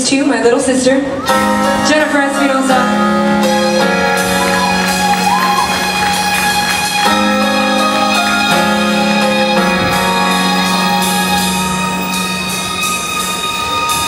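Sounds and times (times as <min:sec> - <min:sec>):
live band playing amplified music: 0:01.0 - 0:14.0.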